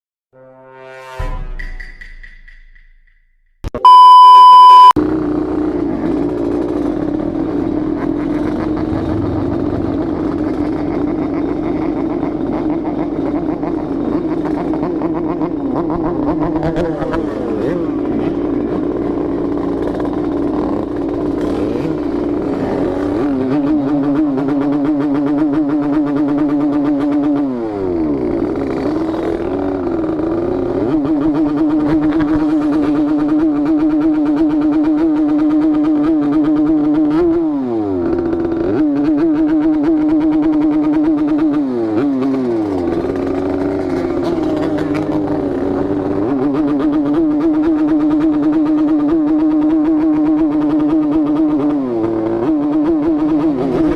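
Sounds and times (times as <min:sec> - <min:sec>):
two-stroke motorcycle engine revving: 0:04.5 - 0:53.9.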